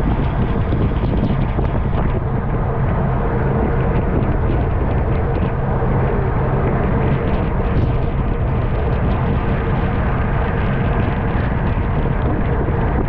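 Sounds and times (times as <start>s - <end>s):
low steady hum: 0.0s - 13.0s
wind rushing over microphone: 0.0s - 13.0s.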